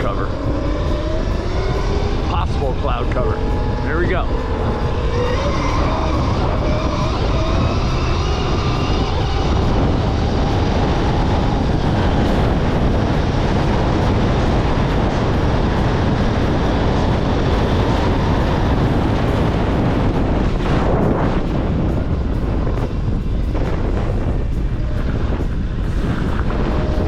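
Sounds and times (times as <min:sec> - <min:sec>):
electric motor whine: 0:00.0 - 0:27.0
wind buffeting microphone: 0:00.0 - 0:27.0.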